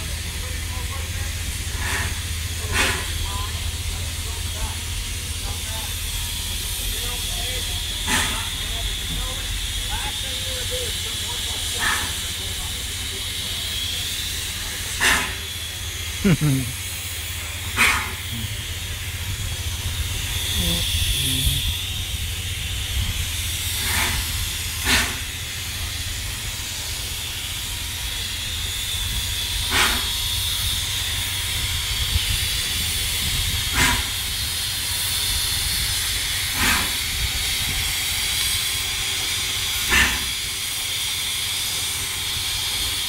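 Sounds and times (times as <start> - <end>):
steam hissing: 0.0 - 43.0.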